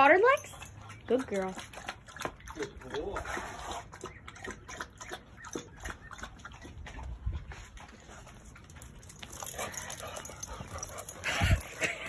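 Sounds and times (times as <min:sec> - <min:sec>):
dog lapping water from bowl: 0:00.0 - 0:12.0.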